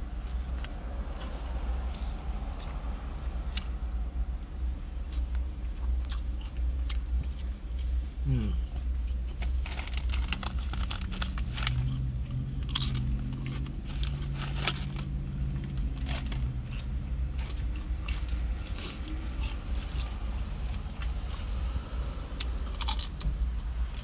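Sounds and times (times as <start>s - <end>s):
low steady hum: 0.0s - 24.0s
wet chewing and smacking: 0.0s - 24.0s.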